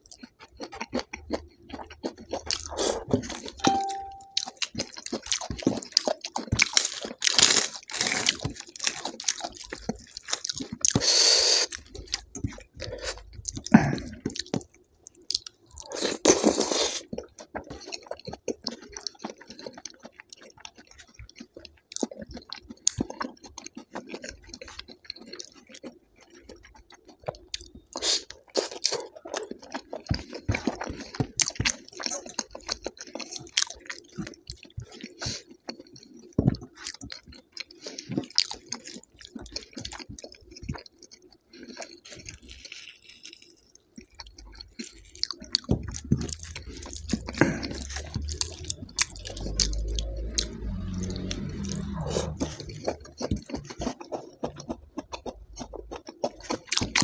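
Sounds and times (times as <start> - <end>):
wet chewing and crunchy bites: 0.0 - 57.0.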